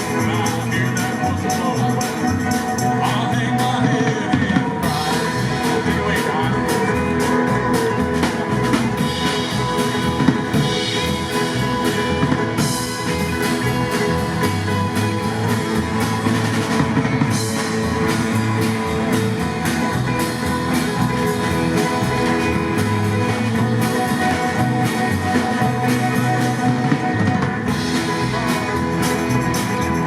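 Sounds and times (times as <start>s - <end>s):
drum kit: 0.0s - 30.0s
electric guitar: 0.0s - 30.0s.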